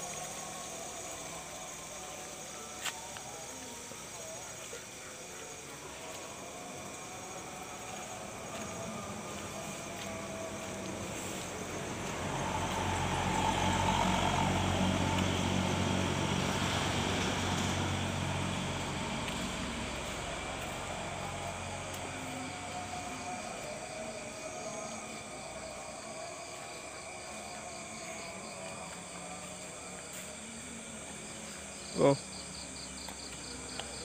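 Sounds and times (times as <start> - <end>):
insects chirring: 0.0 - 34.0
vehicle passing: 3.5 - 34.0.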